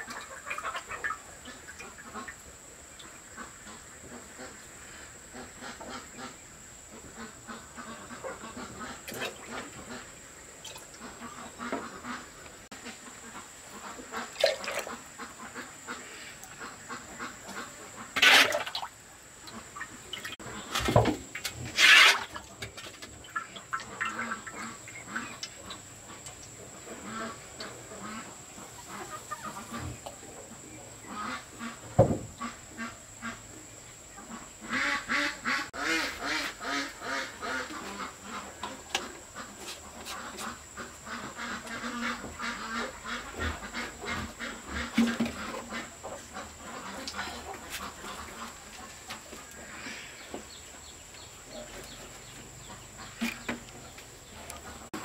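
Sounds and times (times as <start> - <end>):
ducks and chickens calling: 0.0 - 55.0.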